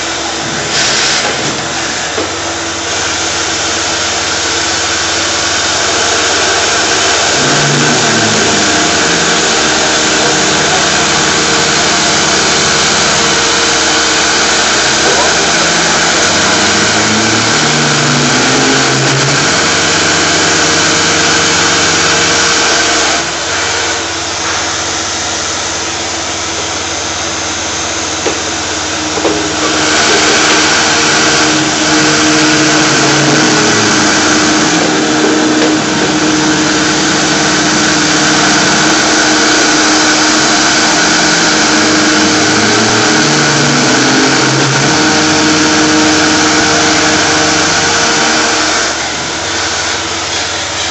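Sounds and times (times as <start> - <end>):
low machine hums: 0.0 - 50.9
shop vacuum hissing: 0.0 - 50.9.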